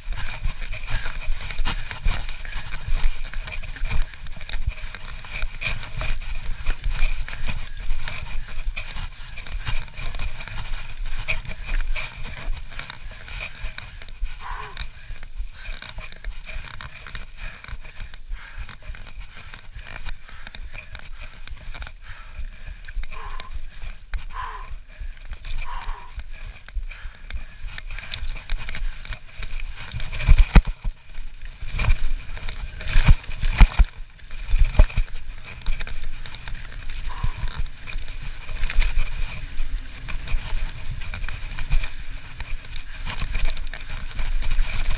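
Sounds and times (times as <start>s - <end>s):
bike rattling and clicking: 0.0s - 44.9s
bike tyres rolling over dirt: 0.0s - 44.9s.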